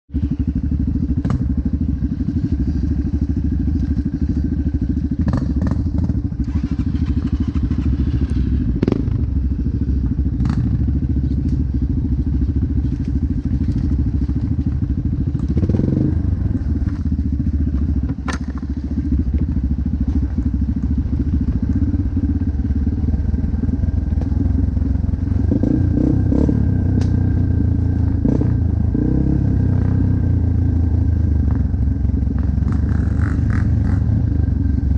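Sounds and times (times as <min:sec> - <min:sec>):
motocross bike engine running: 0:00.1 - 0:34.9.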